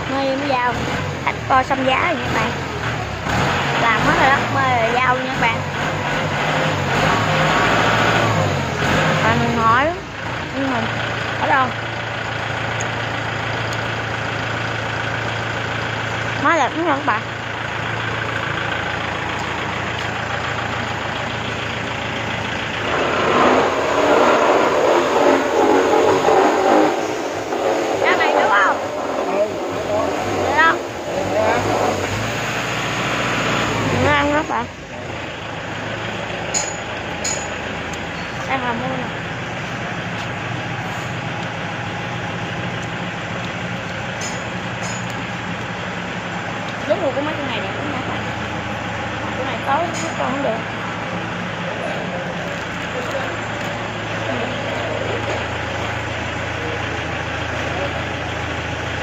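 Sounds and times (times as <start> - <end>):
low motor hum: 0.0 - 59.0
tractor diesel engine idling: 0.0 - 59.0.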